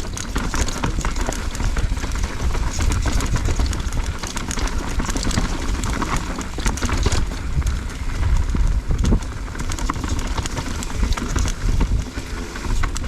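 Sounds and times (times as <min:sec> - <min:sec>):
bike knocking and rattling: 0:00.0 - 0:13.0
wind rumbling on microphone: 0:00.0 - 0:13.0.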